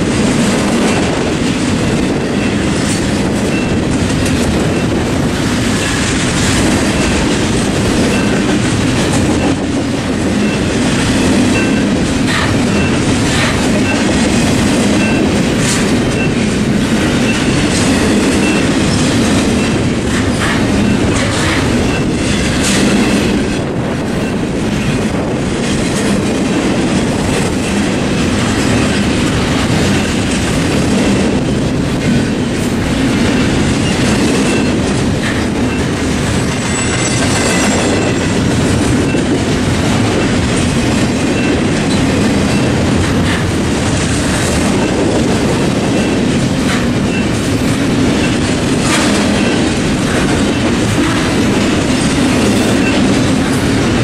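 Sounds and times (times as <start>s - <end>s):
clicks of train wheels: 0.0s - 54.0s
train wheels rumbling on rail: 0.0s - 54.0s.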